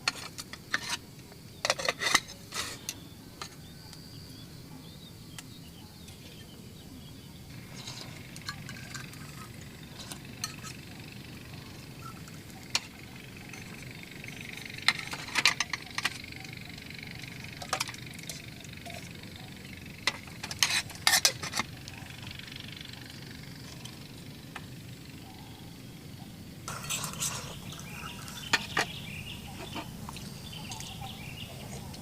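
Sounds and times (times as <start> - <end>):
camp cookware clinking: 0.0 - 3.9, 7.5 - 25.2, 26.7 - 32.0
steady hiss: 4.1 - 32.0.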